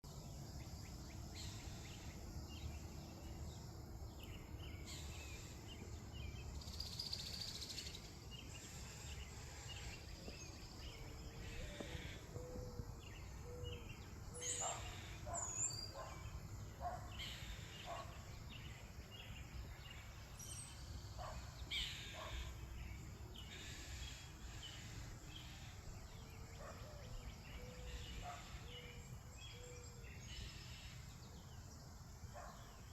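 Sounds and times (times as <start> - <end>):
birds chirping: 0.1 - 32.9.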